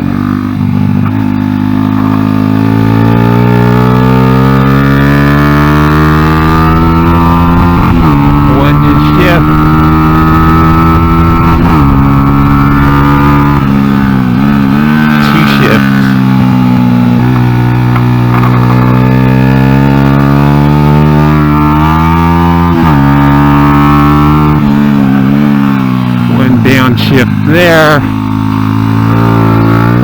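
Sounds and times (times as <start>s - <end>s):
motorbike engine revving: 0.0s - 30.0s.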